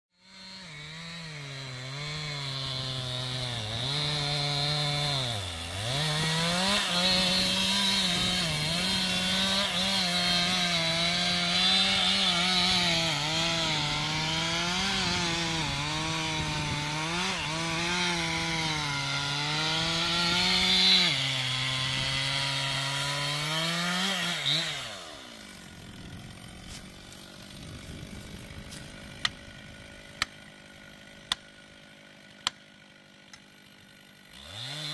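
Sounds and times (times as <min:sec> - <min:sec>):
chainsaw cutting wood: 0:00.2 - 0:34.9.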